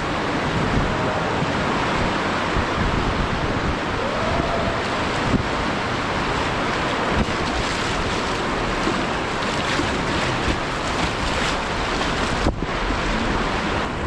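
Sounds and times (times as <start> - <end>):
whitewater rushing: 0.0 - 14.0
wind buffeting microphone: 0.0 - 14.0.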